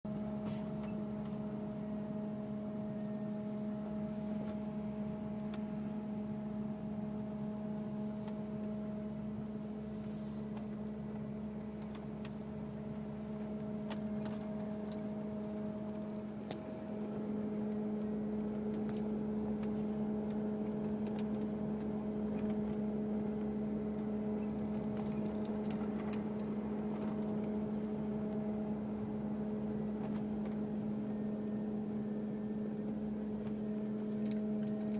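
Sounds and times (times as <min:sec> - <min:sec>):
engine compartment hum: 0:00.1 - 0:34.9.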